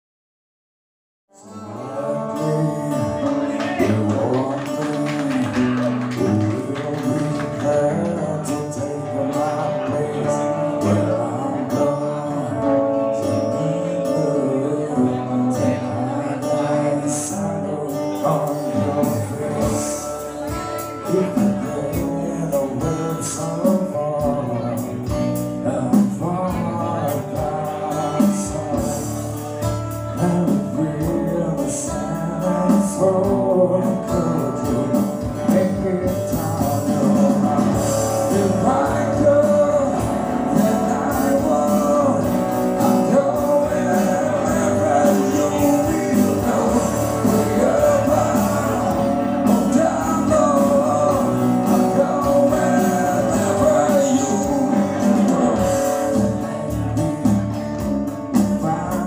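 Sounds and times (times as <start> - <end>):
acoustic and electric guitars: 1.3 - 59.0
man singing into microphone: 1.3 - 59.0.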